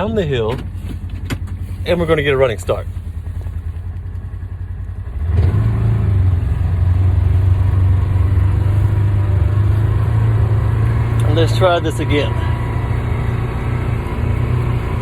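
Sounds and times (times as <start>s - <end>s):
utility vehicle engine revving: 0.0s - 15.0s.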